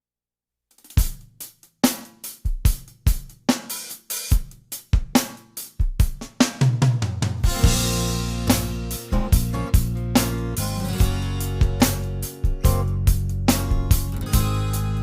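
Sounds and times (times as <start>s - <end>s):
drum kit playing a beat: 0.8s - 15.0s.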